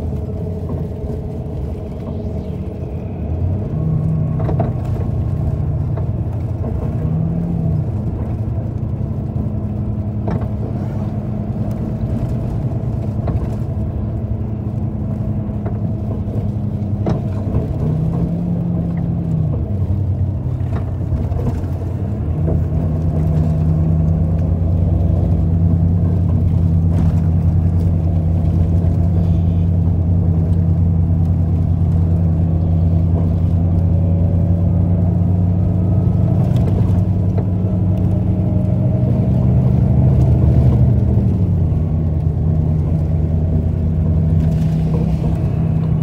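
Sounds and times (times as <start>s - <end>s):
low road rumble: 0.0s - 46.0s
vehicle engine running: 0.0s - 46.0s.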